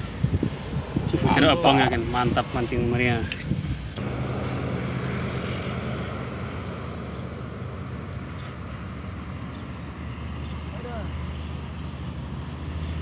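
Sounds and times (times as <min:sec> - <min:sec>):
distant engine drone: 0:00.0 - 0:13.0.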